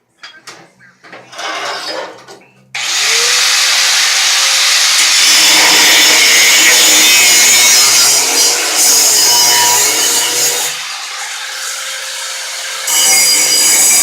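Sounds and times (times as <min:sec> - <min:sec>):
angle grinder cutting metal: 0:02.8 - 0:14.0.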